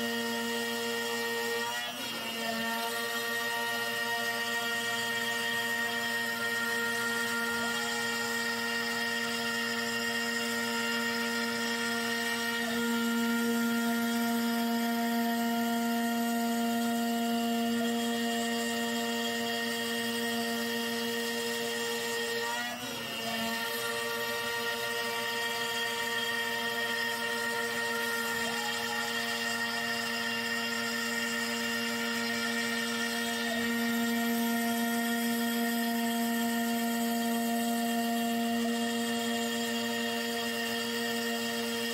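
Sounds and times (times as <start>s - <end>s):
bit milling wood: 0.0s - 41.9s
router spindle whining: 0.0s - 41.9s.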